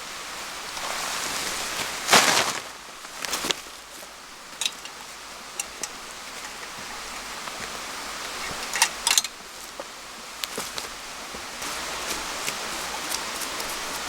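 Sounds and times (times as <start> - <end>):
rain falling in woods: 0.0 - 14.0.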